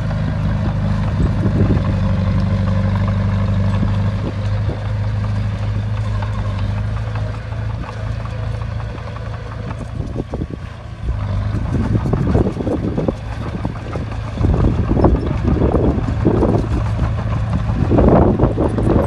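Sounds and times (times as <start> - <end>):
wind buffeting microphone: 0.0 - 6.4, 7.0 - 19.0
heavy diesel engine running: 0.0 - 19.0.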